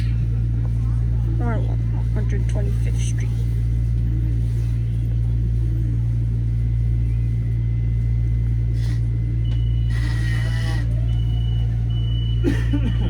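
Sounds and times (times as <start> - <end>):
high-pitched whine: 0.0 - 13.0
train car hum and rumble: 0.0 - 13.0.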